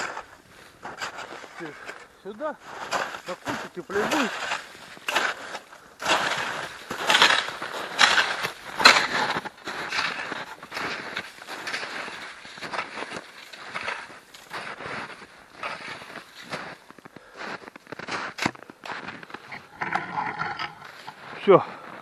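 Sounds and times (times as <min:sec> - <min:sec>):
snow shovel scooping and scraping: 0:00.0 - 0:22.0.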